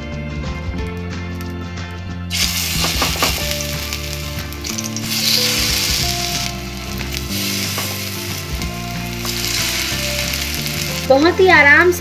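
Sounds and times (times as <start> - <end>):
food sizzling in oil: 2.3 - 12.0.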